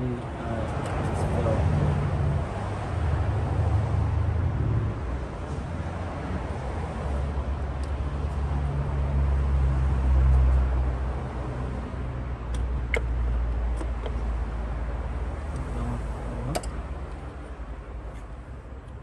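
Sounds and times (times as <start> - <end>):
low vehicle engine rumble: 0.0 - 19.0.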